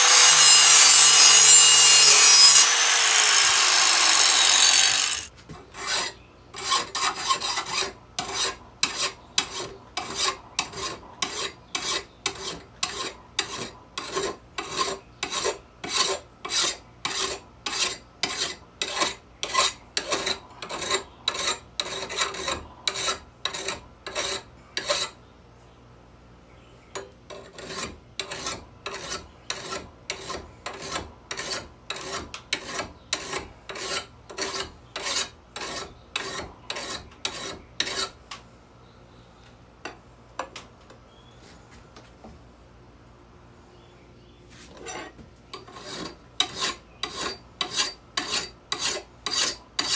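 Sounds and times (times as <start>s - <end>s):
hand file rasping on metal: 0.0s - 25.2s, 27.3s - 38.2s, 44.8s - 49.9s.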